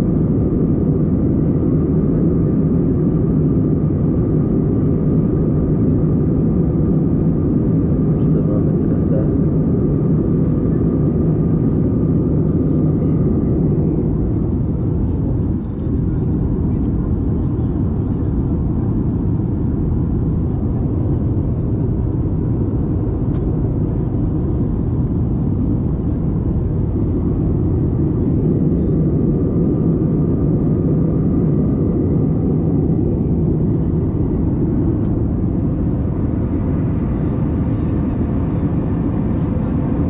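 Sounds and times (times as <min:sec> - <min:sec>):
airliner cabin drone: 0:00.0 - 0:40.0.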